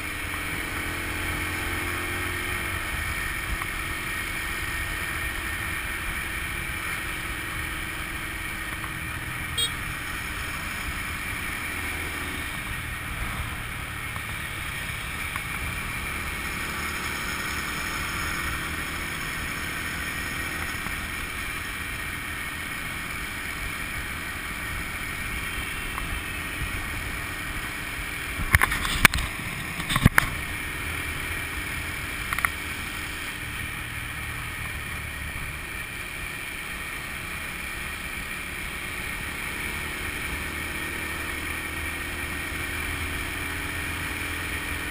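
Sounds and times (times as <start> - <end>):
motorbike engine: 0.0 - 44.9.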